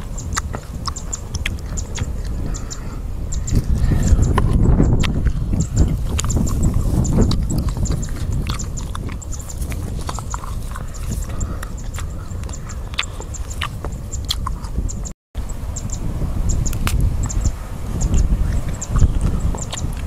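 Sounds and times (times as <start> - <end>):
crunching and chewing fruit: 0.0 - 15.1, 16.7 - 17.4, 18.0 - 20.0
low wind rumble on microphone: 0.0 - 20.0.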